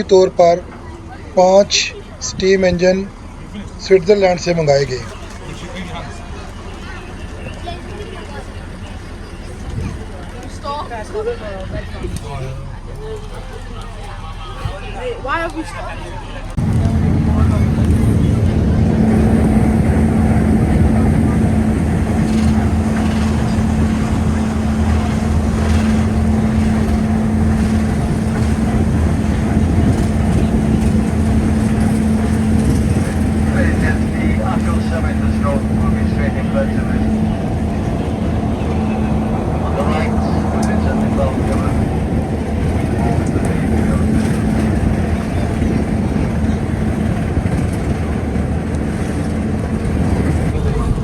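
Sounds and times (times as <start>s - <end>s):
train mechanical drone: 0.0s - 51.0s.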